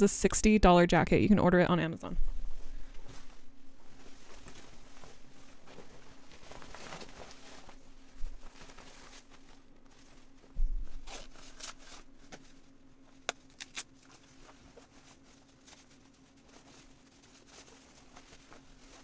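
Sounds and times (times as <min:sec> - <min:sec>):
steady low hum: 0:00.0 - 0:19.0
jacket rustling: 0:02.3 - 0:13.0, 0:13.8 - 0:19.0.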